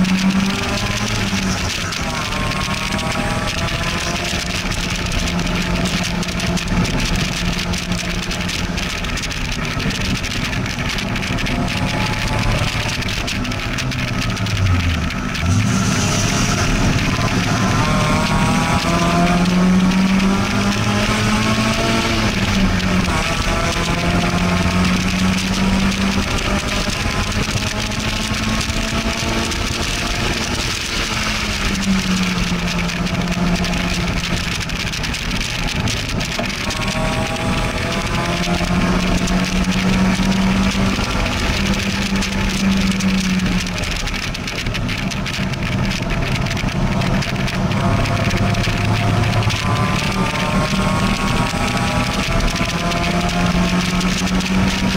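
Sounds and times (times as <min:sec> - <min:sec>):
sports car engine accelerating: 0:00.0 - 0:54.9.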